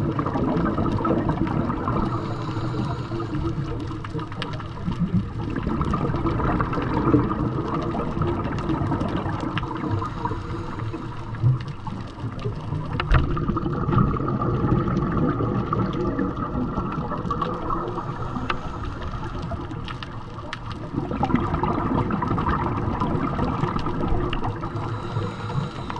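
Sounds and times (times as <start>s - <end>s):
muffled underwater rush: 0.0s - 25.9s.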